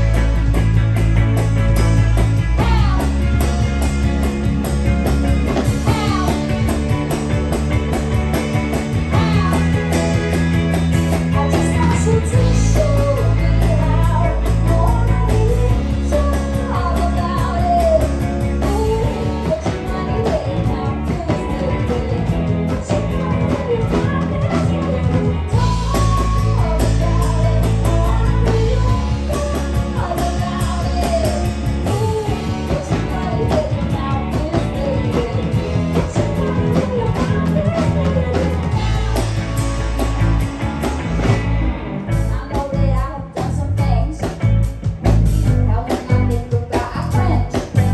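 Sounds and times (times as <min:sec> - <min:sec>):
electric bass: 0:00.0 - 0:47.9
live rock band: 0:00.0 - 0:47.9
woman singing: 0:01.8 - 0:40.4, 0:42.1 - 0:47.9.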